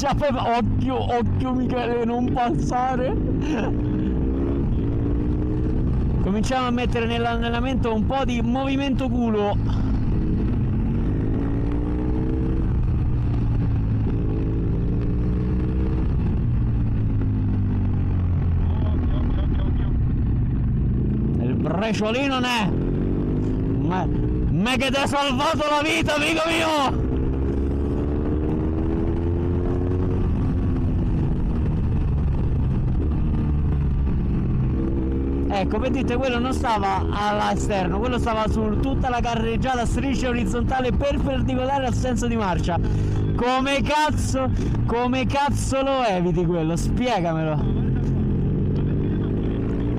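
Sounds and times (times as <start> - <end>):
low wind rumble: 0.0 - 49.9
motorcycle engine accelerating: 0.0 - 49.9.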